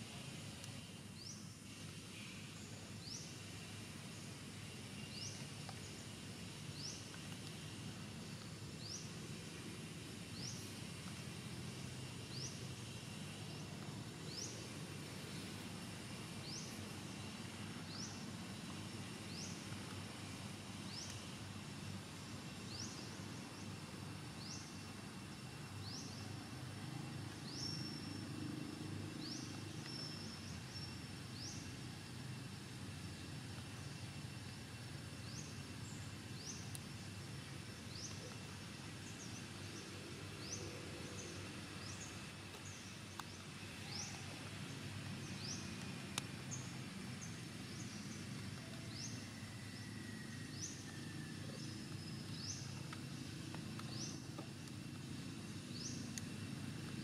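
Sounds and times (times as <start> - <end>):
low background noise: 0.0 - 57.0.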